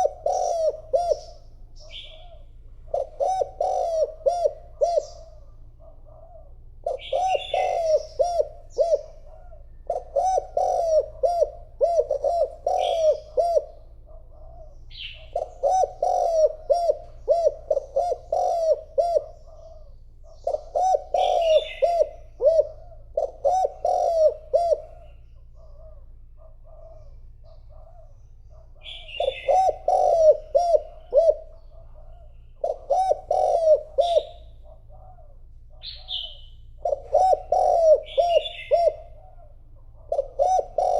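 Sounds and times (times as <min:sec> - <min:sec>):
dove cooing: 0:00.0 - 0:40.9
small birds chirping: 0:00.0 - 0:40.9.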